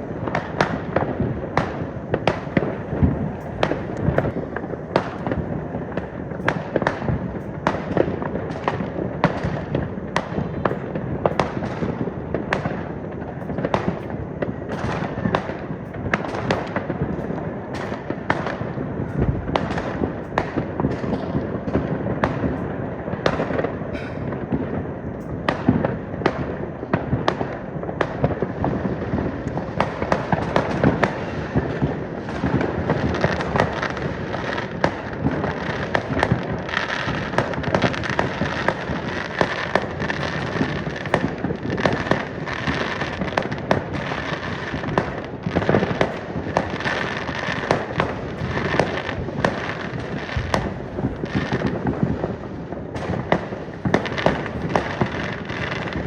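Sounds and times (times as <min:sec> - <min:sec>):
fireworks crackling and banging: 0:00.0 - 0:56.0.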